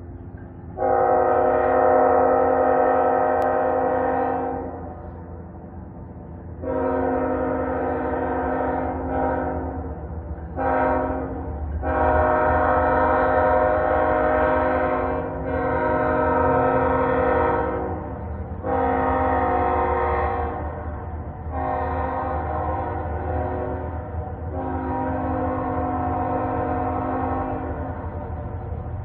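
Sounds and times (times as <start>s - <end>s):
train rumble: 0.0s - 29.0s
locomotive air horn blasts: 0.8s - 4.9s, 6.6s - 9.8s, 10.6s - 20.9s, 21.5s - 28.1s.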